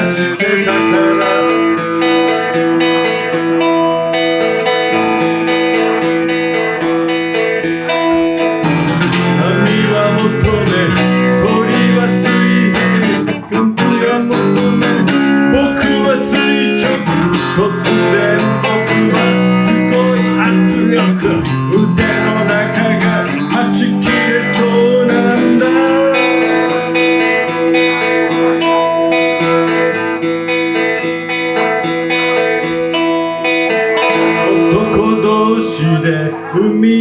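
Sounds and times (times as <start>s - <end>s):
electric guitar playing: 0.0s - 37.0s.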